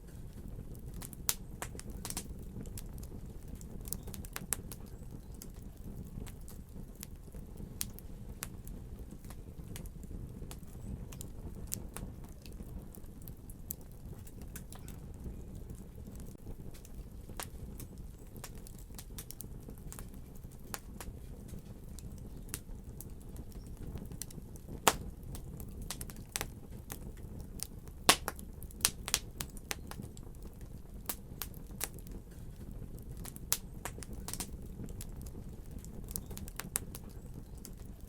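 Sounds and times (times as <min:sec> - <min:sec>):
fire crackling with sharp pops: 0:00.0 - 0:38.0.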